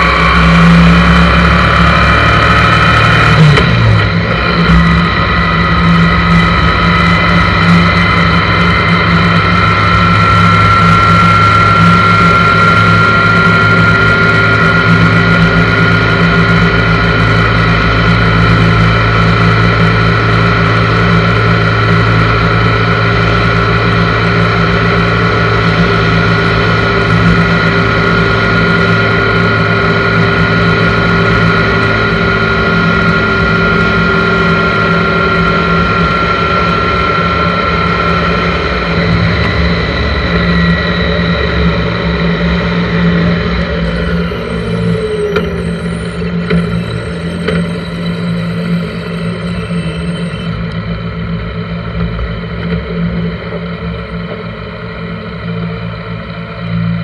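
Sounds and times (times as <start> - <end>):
high whine: 0.0 - 57.0
motorcycle engine cruising: 0.0 - 57.0.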